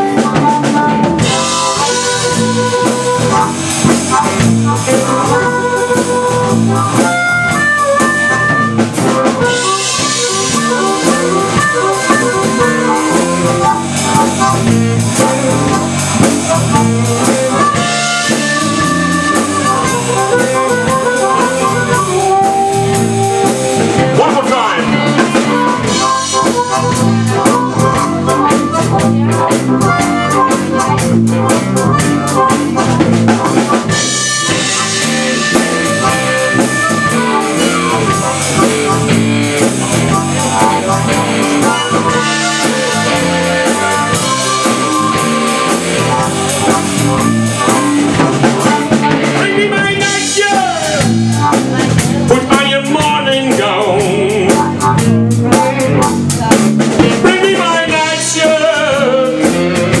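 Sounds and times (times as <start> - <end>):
drum kit beat: 0.0 - 60.0
harmonicas playing: 0.0 - 60.0.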